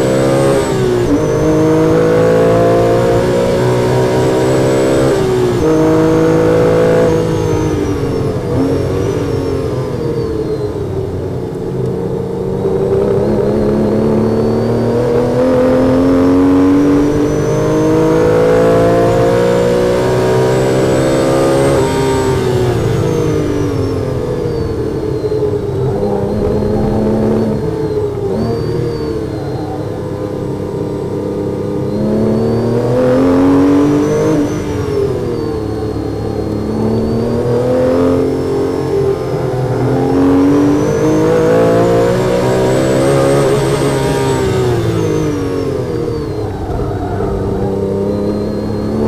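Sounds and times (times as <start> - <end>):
sports car engine revving: 0.0 - 49.0.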